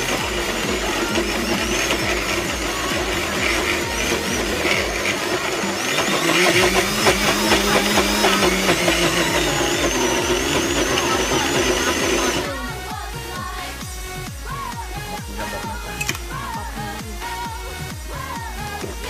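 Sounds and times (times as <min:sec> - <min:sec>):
blender motor whirring: 0:00.0 - 0:19.0.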